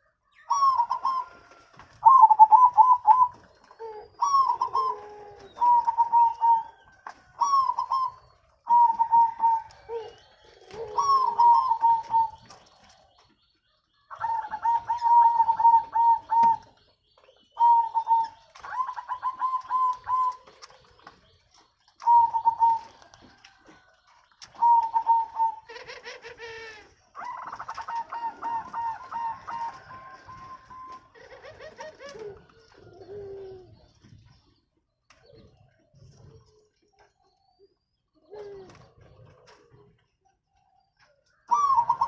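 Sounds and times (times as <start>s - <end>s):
doves cooing: 0.0s - 42.0s.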